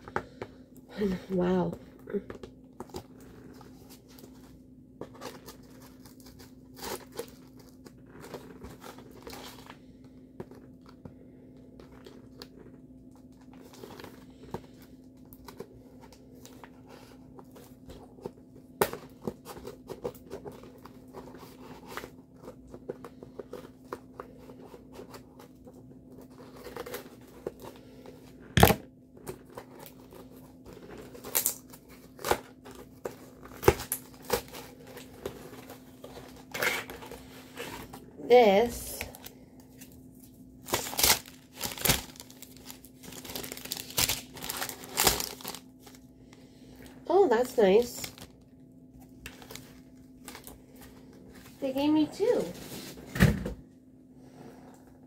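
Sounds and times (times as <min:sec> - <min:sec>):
packaging crinkling: 0:02.8 - 0:11.0, 0:11.6 - 0:46.1, 0:46.8 - 0:51.7.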